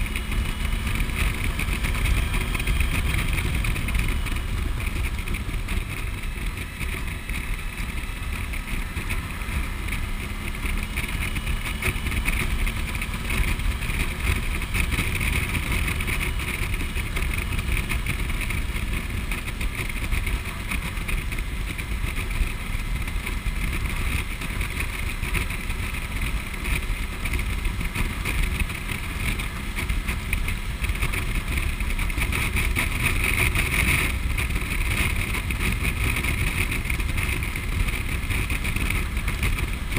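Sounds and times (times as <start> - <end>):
motorcycle engine drone: 0.0 - 39.9
rushing wind: 0.0 - 39.9.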